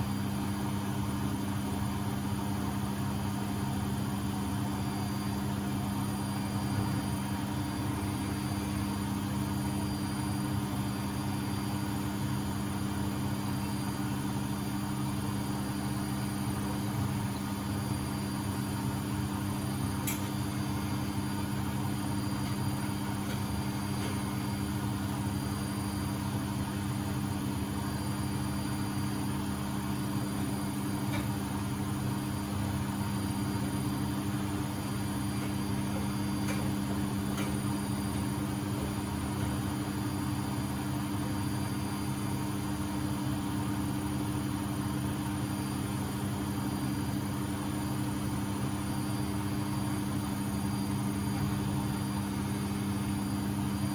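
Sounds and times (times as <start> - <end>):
washing machine spinning: 0.0 - 53.9.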